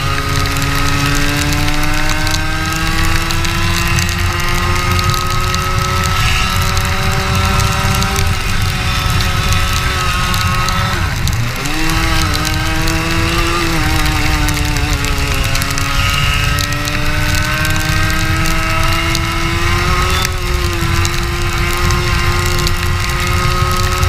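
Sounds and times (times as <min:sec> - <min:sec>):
kart engine: 0:00.0 - 0:24.0.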